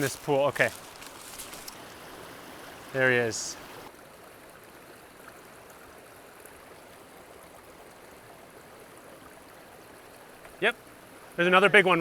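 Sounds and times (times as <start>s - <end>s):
creek flowing over rocks: 0.0s - 12.0s.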